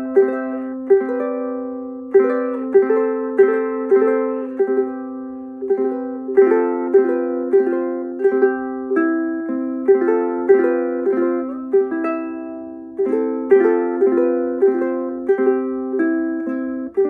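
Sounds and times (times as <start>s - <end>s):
ukulele fingerpicked: 0.0s - 17.0s.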